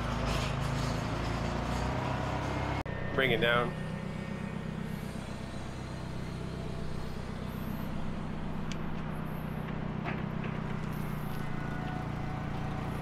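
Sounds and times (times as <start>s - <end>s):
forklift engine running: 0.0s - 13.0s.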